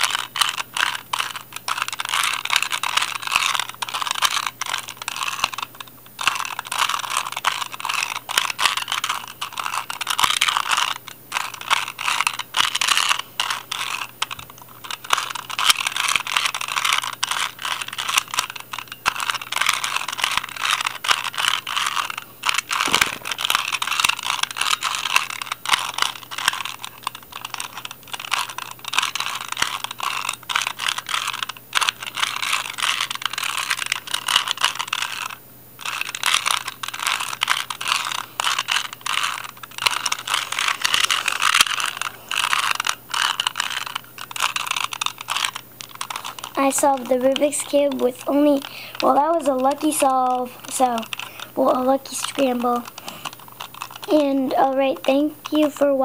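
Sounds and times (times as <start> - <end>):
puzzle cube plastic clicking: 0.0 - 56.0.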